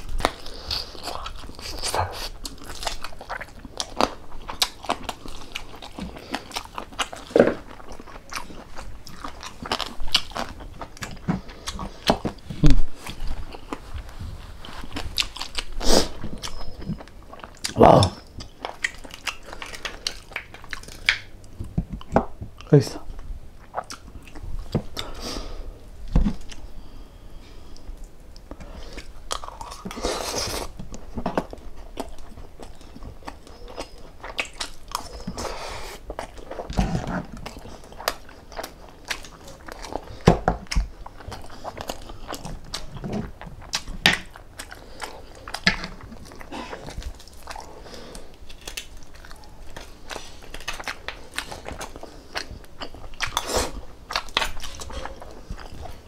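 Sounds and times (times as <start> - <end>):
crunchy chewing: 0.0 - 25.6, 27.6 - 56.0.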